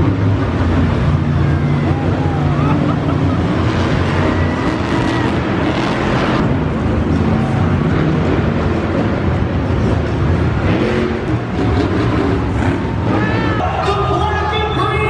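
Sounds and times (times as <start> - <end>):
monster truck engine drone: 0.0 - 15.0.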